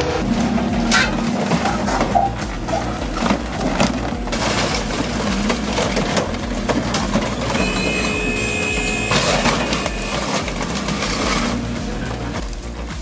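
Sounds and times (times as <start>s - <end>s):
heavy machinery working: 0.0s - 13.0s
material cracking and crunching: 0.0s - 13.0s.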